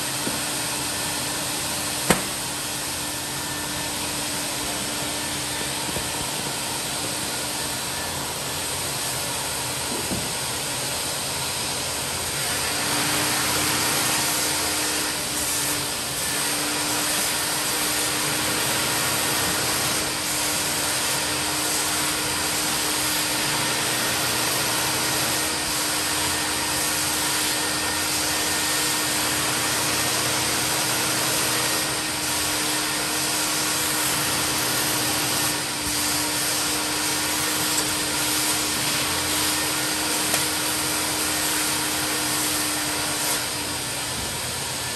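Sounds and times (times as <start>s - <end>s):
carpet extractor vacuum running: 0.0s - 44.9s.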